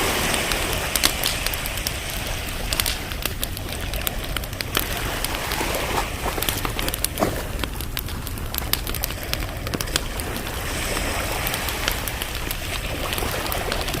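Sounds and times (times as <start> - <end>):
campfire crackling and popping: 0.0 - 14.0
wind and rain hiss: 0.0 - 14.0.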